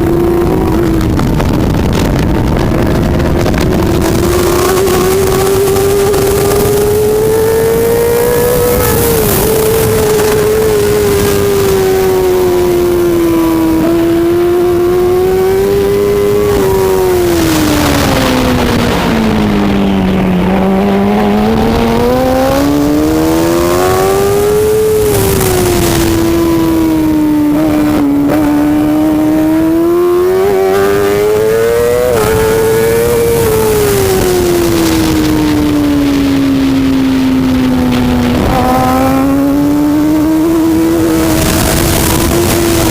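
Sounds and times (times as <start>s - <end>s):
racing motorcycle engine revving: 0.0s - 42.9s.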